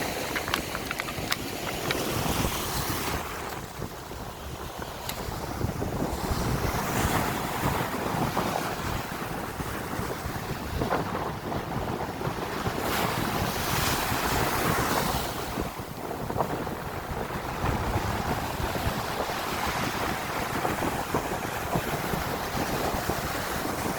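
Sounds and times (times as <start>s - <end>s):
sea waves breaking over rocks: 0.0s - 23.9s
wind rumbling on microphone: 0.0s - 23.9s.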